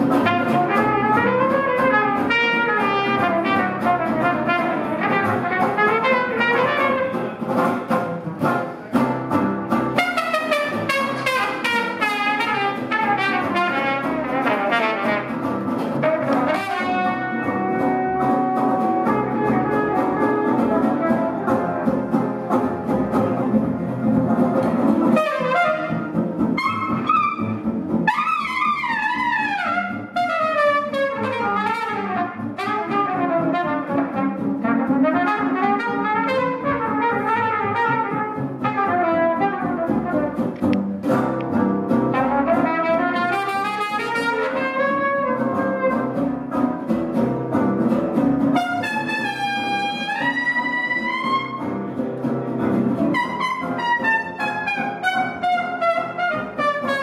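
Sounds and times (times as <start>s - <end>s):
trumpet solo: 0.0s - 7.4s, 9.9s - 22.2s, 25.1s - 40.6s, 42.1s - 46.2s, 48.5s - 51.8s, 53.0s - 57.0s
guitar: 0.0s - 57.0s
plucked upright bass: 0.0s - 57.0s.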